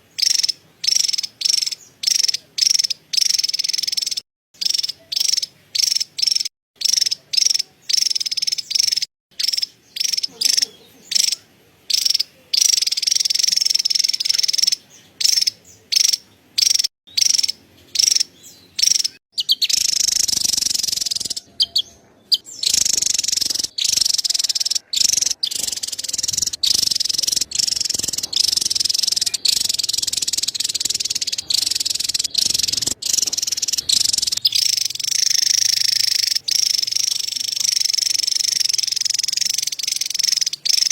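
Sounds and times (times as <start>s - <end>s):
bird chattering scold: 0.1s - 40.9s.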